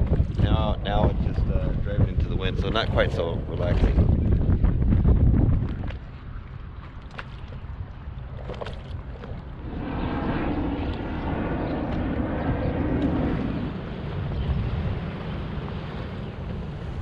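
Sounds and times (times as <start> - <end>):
choppy water rushing: 0.0 - 17.0
wind buffeting microphone: 0.0 - 17.0.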